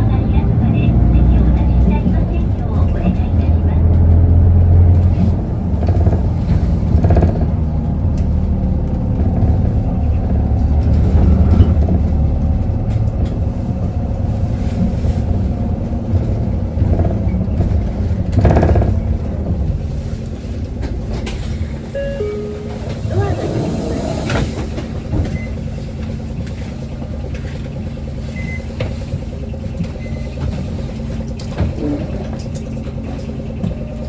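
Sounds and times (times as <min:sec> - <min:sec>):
bus engine rumbling: 0:00.0 - 0:34.0.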